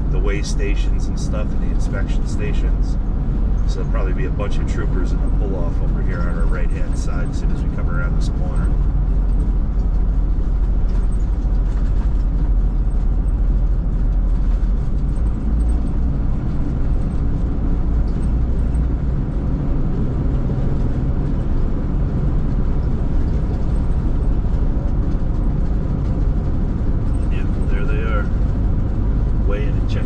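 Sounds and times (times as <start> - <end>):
vehicle engine and road drone: 0.0 - 30.0.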